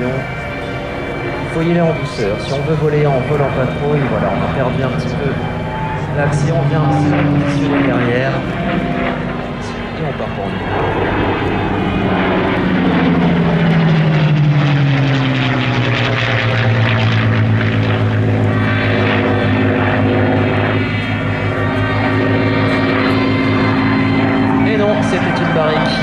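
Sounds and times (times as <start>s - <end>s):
propeller aircraft engine drone: 0.0s - 26.0s.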